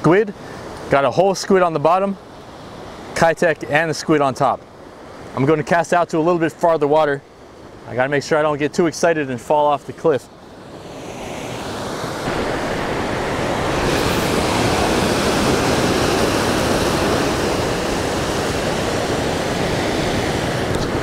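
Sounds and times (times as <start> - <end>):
ocean surf breaking on rocks: 0.0 - 21.0.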